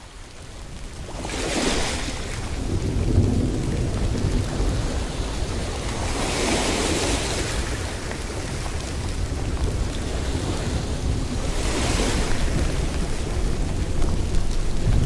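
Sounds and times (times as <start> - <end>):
rain: 0.0 - 15.0
rolling thunder: 2.1 - 15.0.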